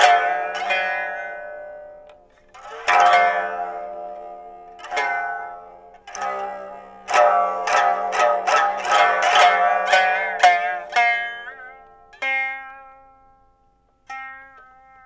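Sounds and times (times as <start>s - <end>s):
plucked lute notes: 0.0s - 15.0s.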